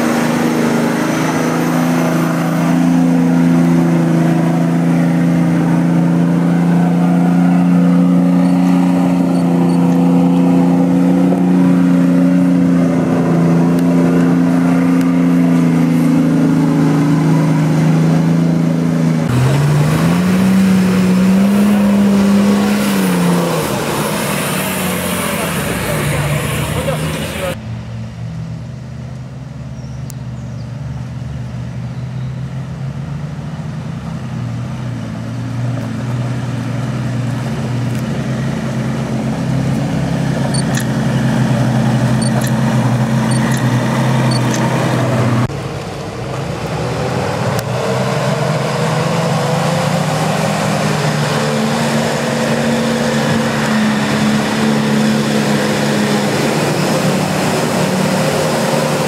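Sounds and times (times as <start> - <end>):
vehicle engine revving in mud: 0.0 - 27.6, 33.5 - 45.6, 46.6 - 59.0
off-road vehicle engine running: 0.0 - 59.0.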